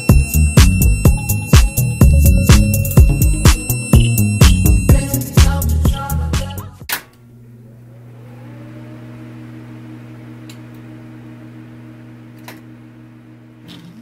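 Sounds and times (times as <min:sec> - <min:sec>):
electrical motor hum: 0:00.0 - 0:14.0.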